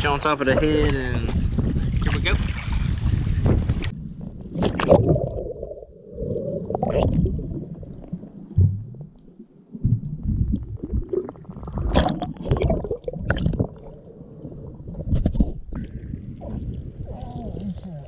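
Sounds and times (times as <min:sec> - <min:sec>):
water splashing: 0:00.0 - 0:18.0
underwater rumbling and gurgling: 0:00.2 - 0:18.0.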